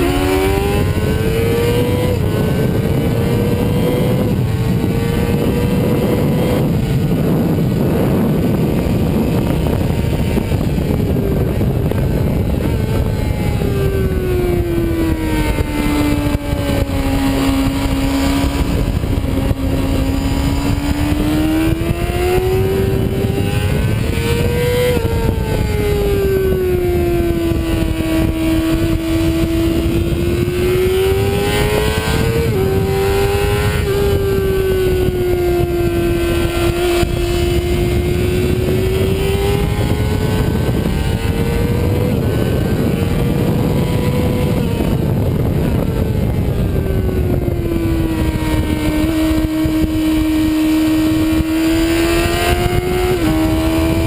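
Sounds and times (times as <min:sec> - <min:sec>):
sport bike engine running hard: 0:00.0 - 0:54.0
wind rush on microphone: 0:00.0 - 0:54.0.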